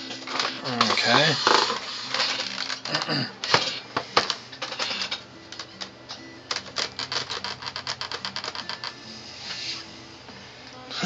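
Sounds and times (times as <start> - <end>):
faint music: 0.0 - 11.0.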